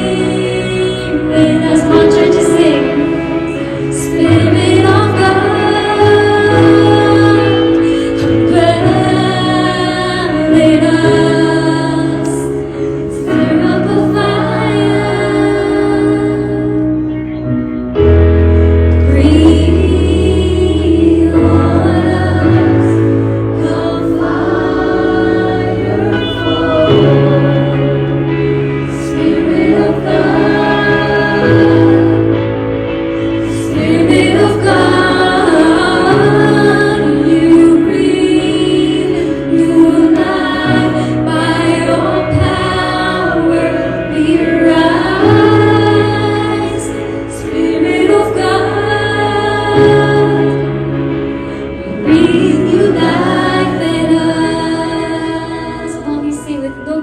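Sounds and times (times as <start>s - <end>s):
group vocals singing: 0.0s - 17.0s, 18.9s - 57.0s
held chords: 0.0s - 57.0s.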